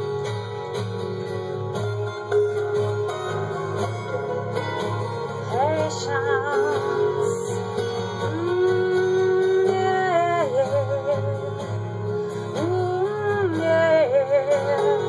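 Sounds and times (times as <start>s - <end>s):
lead guitar with vibrato: 0.0s - 15.0s
steady musical accompaniment: 0.0s - 15.0s.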